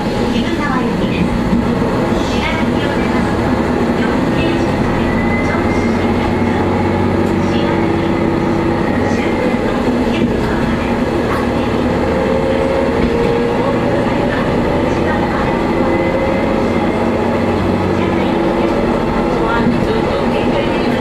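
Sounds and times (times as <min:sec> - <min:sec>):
diesel engine droning: 0:00.0 - 0:21.0
wheels rumbling on rails: 0:00.0 - 0:21.0.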